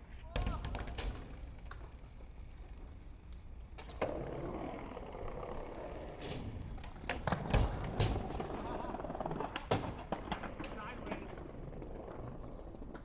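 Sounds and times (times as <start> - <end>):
skateboard wheels rolling: 0.0 - 13.0
skateboard clacks and thumps: 0.1 - 13.0.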